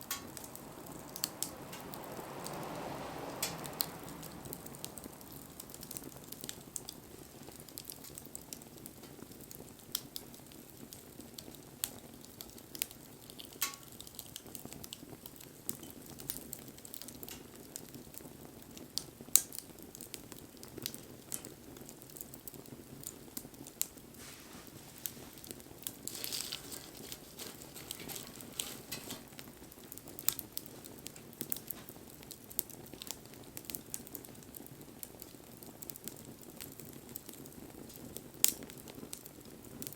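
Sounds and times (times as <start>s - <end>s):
burning wood crackling and popping: 0.0s - 39.9s
campfire flames hissing: 0.0s - 39.9s.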